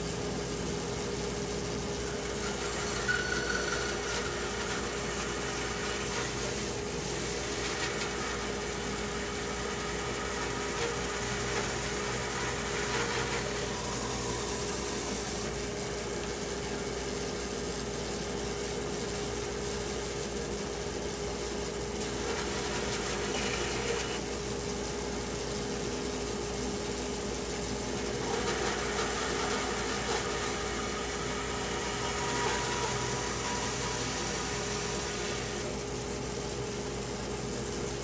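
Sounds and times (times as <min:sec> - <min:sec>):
woodworking machine humming: 0:00.0 - 0:17.6, 0:21.1 - 0:38.0
hiss: 0:00.0 - 0:38.0.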